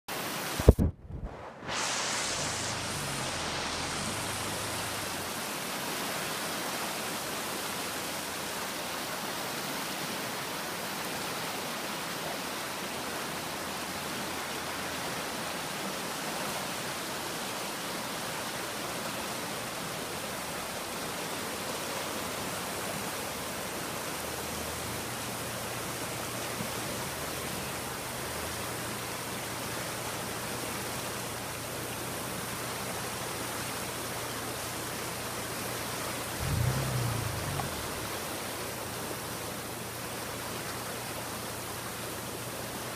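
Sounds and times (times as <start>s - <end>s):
floodwater rushing over concrete: 1.6s - 42.9s.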